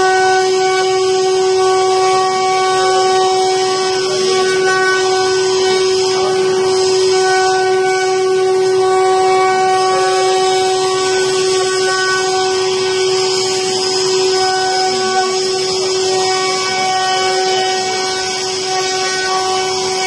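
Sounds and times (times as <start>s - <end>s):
bit cutting wood hiss: 0.0s - 20.0s
electric spindle whine: 0.0s - 20.0s.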